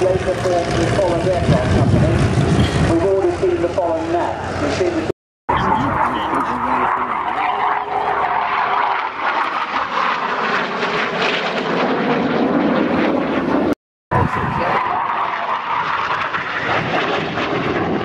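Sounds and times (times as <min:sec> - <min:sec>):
jet aircraft flying overhead: 0:00.0 - 0:18.0.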